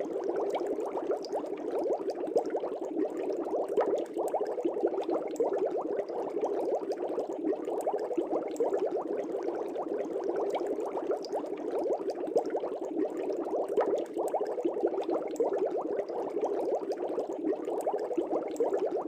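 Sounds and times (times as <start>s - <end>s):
air bubbling in water: 0.0s - 19.0s.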